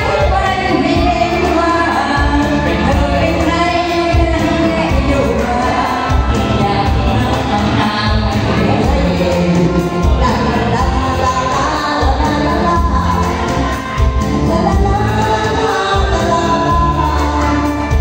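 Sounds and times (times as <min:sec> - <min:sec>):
amplified pop music: 0:00.0 - 0:18.0
women singing into microphones: 0:00.0 - 0:18.0.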